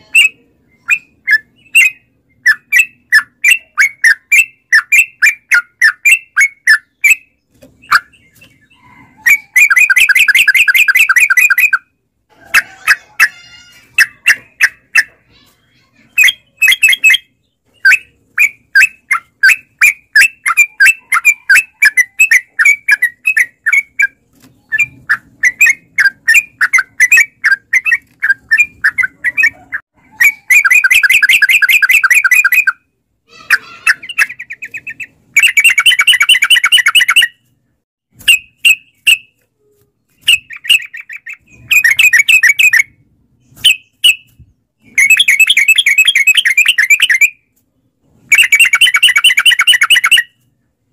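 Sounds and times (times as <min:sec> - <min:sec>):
bird chirping and trilling: 0:00.0 - 0:37.5, 0:38.2 - 0:39.4, 0:40.0 - 0:50.5.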